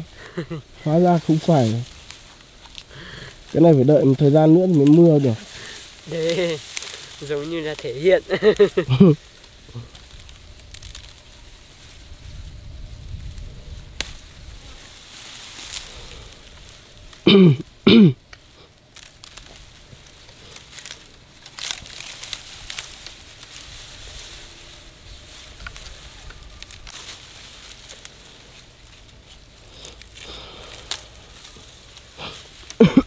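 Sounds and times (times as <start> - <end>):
grass crunching and rustling: 0.0 - 33.0.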